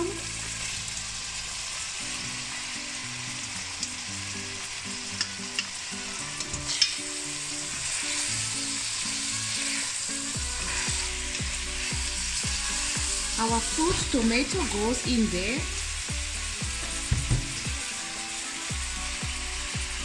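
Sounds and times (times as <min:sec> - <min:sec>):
meat sizzling in a pot: 0:00.0 - 0:20.0.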